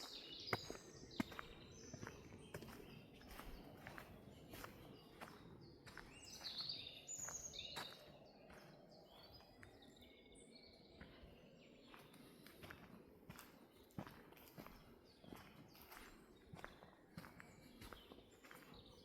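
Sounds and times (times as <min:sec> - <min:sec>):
footsteps crunching on forest floor: 0:00.0 - 0:10.1, 0:10.9 - 0:19.0
songbird singing: 0:00.0 - 0:19.0.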